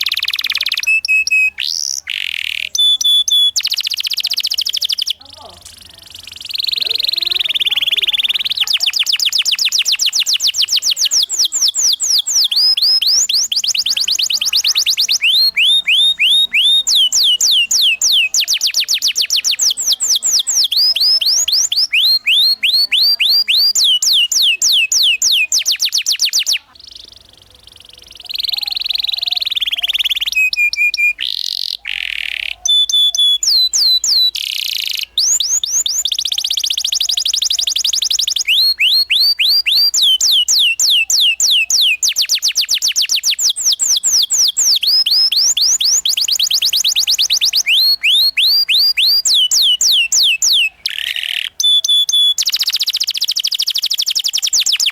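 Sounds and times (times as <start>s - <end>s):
canary singing: 0.0s - 54.9s.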